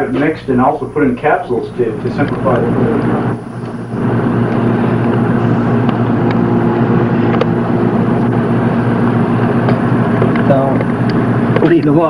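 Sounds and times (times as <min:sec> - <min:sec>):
machine droning with hiss: 0:00.0 - 0:12.0.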